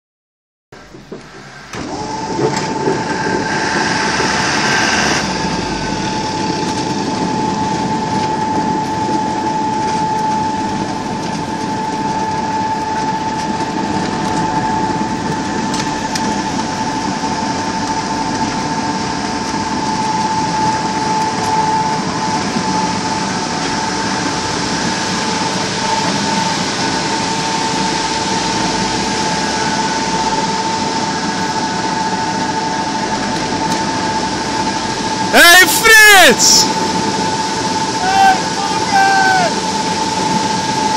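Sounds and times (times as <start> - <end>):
conveyor belt whine and rumble: 0.8 - 40.9.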